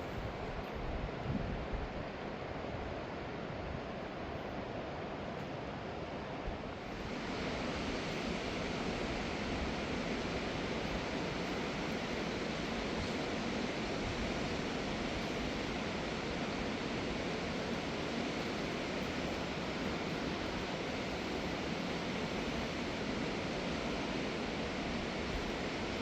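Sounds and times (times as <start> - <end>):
river water rushing: 2.0 - 26.0.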